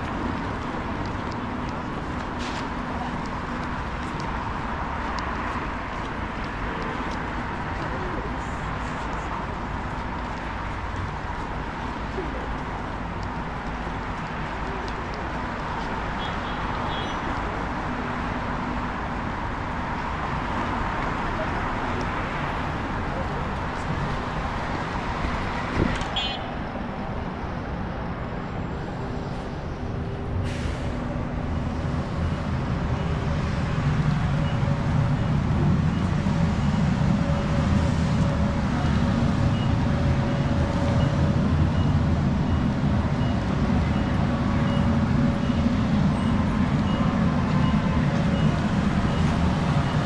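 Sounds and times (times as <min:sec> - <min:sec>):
traffic rumble: 0:00.0 - 0:50.0.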